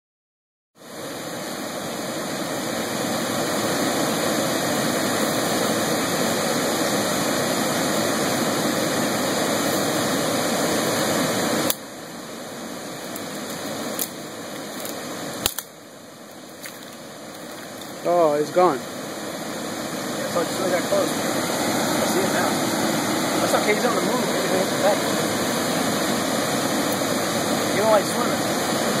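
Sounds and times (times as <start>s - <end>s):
steady rushing noise: 0.8s - 29.0s.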